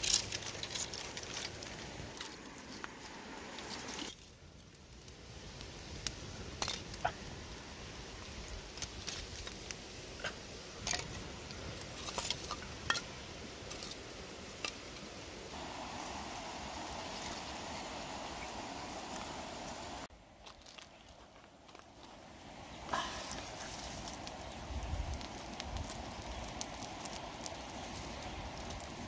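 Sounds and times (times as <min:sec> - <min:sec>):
twig fire crackling: 0:00.0 - 0:29.0
steady mid-pitched hiss: 0:01.2 - 0:29.0.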